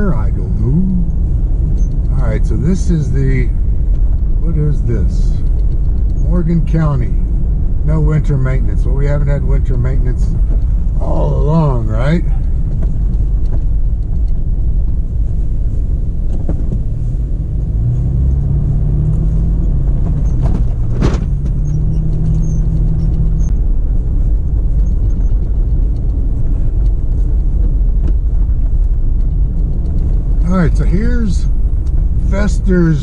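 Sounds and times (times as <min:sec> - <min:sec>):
car driving on snowy dirt road: 0:00.0 - 0:33.0
engine drone: 0:00.0 - 0:33.0.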